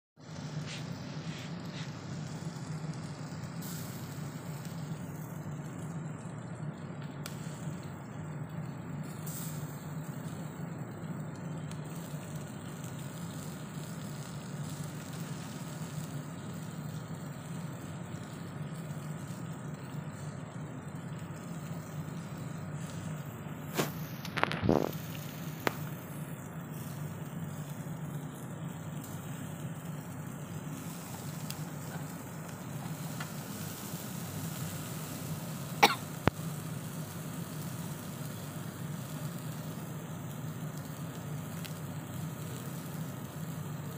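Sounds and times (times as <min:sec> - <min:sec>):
chicken grilling over charcoal: 0:00.2 - 0:43.9
steady low hum: 0:00.2 - 0:43.9.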